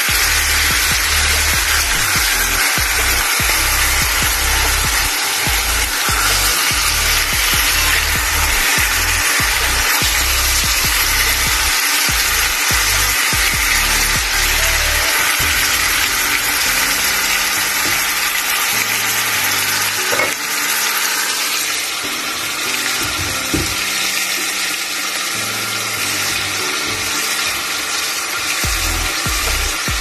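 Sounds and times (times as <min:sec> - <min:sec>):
background music: 0:00.0 - 0:30.0
chicken sizzling in hot oil: 0:00.0 - 0:30.0.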